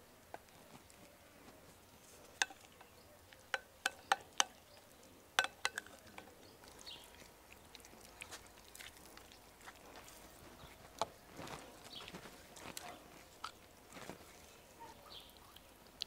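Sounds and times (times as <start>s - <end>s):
squelching and smearing: 0.5s - 16.0s.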